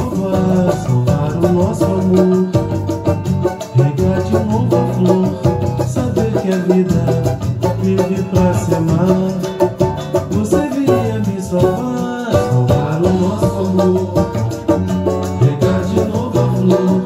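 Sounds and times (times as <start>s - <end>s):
banjo strummed in fast rhythm: 0.0s - 17.0s
bass line: 0.0s - 17.0s
latin percussion: 0.0s - 17.0s.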